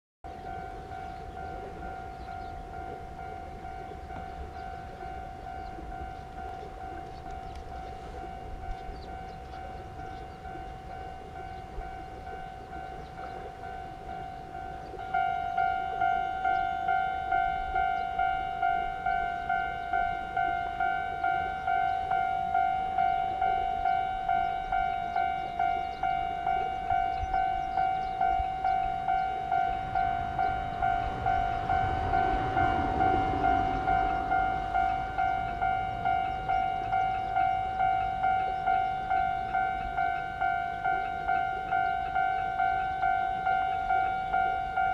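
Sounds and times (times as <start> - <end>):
level crossing alarm ringing: 0.2 - 44.9
loud crossing alarm: 0.2 - 44.9.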